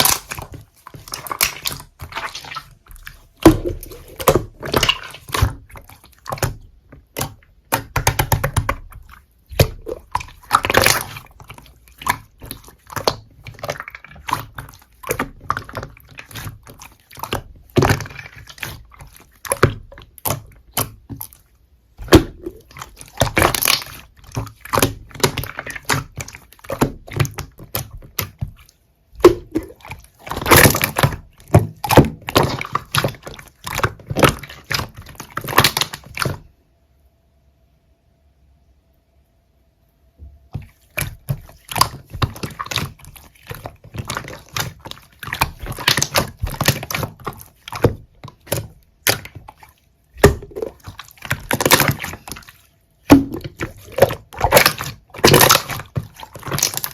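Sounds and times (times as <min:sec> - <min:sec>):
slime squishing by hand: 0:00.0 - 0:36.5, 0:40.2 - 0:56.9.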